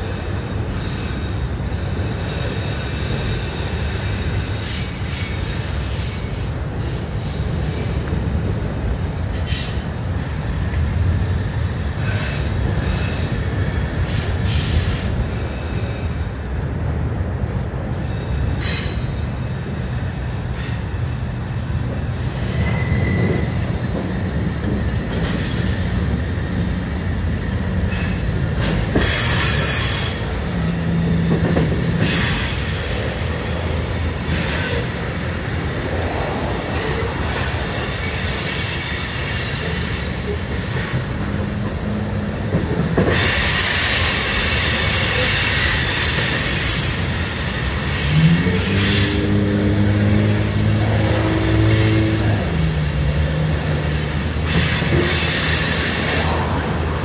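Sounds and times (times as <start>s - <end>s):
train wheel squeal: 0.0s - 8.4s, 9.0s - 16.4s, 17.9s - 57.0s
wheels rumbling on rail: 0.0s - 57.0s.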